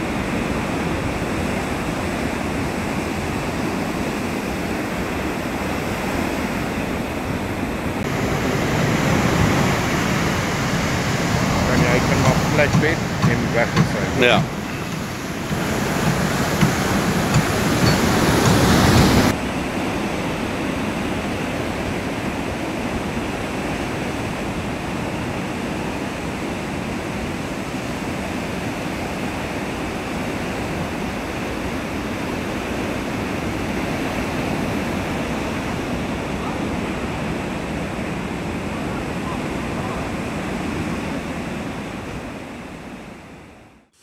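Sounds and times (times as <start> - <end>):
waves breaking on a beach: 0.0 - 43.9.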